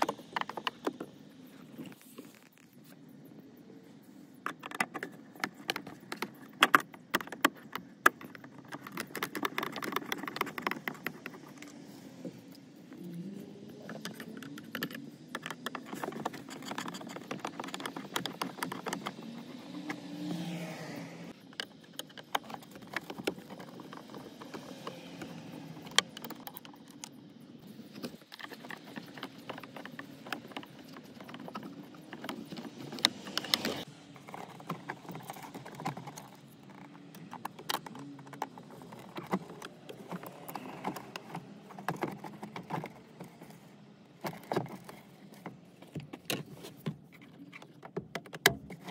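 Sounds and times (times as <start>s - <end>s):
plastic trim clicking and scraping: 0.0s - 3.0s, 4.4s - 20.6s, 21.3s - 48.9s.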